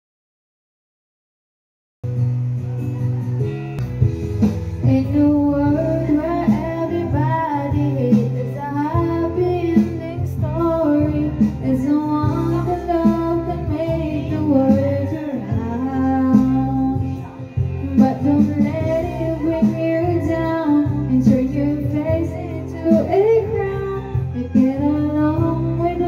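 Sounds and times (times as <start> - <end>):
backing music: 2.0 - 26.0
woman singing into microphone: 4.8 - 26.0.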